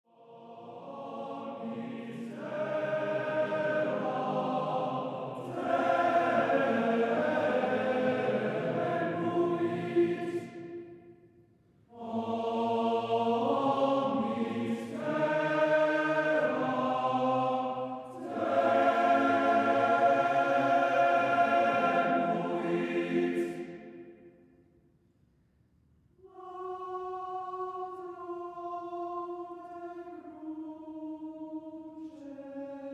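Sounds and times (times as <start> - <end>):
choir singing sustained chords: 0.1 - 24.6, 26.2 - 32.9.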